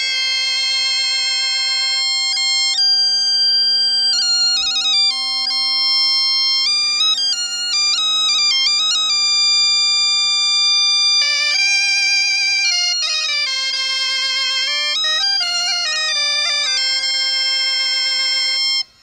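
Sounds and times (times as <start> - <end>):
bagpipe drone: 0.0 - 19.0
bombarde melody: 0.0 - 19.0.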